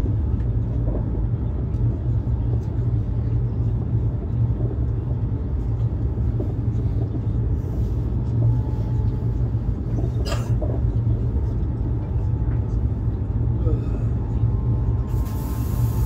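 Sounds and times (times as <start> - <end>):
train rumble from inside carriage: 0.0 - 16.0.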